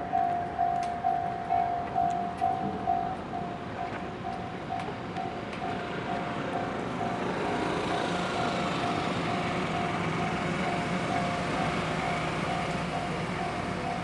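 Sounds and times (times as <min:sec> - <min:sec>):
level-crossing warning bell: 0:00.0 - 0:14.0
train running slowly: 0:00.0 - 0:14.0.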